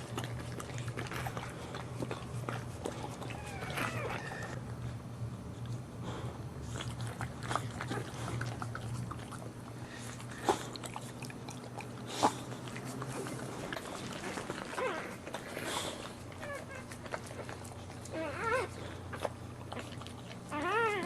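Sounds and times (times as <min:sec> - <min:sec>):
dog licking and chewing: 0:00.0 - 0:06.0, 0:06.6 - 0:21.0.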